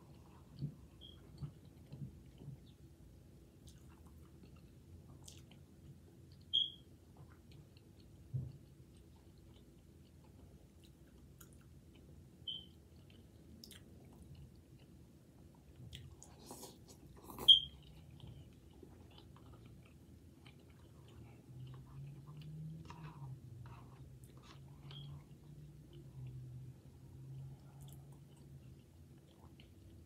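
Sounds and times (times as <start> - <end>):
person chewing noodles: 3.5 - 30.0.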